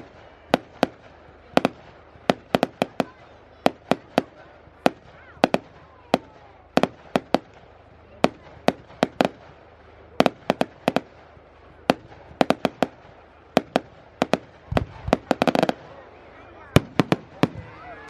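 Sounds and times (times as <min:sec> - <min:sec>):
fireworks cracking: 0:00.0 - 0:18.0.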